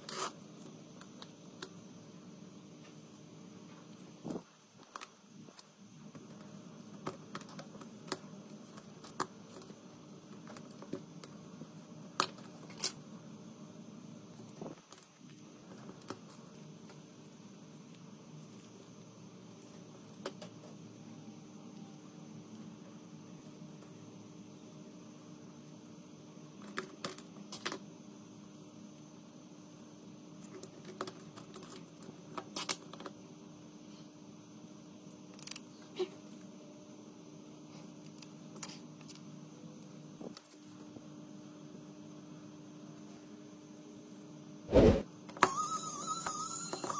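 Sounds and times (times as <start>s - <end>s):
faint room hiss and hum: 0.0s - 46.9s.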